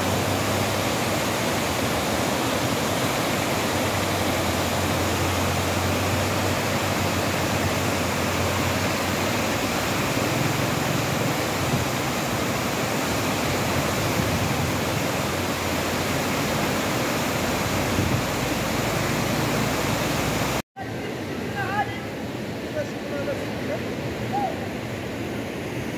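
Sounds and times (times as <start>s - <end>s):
floodwater rushing down a channel: 0.0s - 25.9s.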